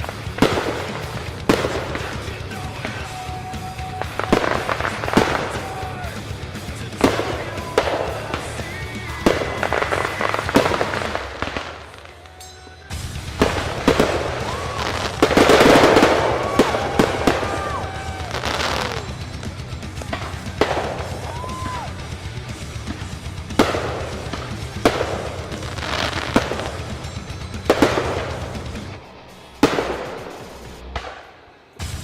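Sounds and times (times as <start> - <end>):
fireworks crackling: 0.0 - 32.0
fireworks shells booming: 0.0 - 32.0.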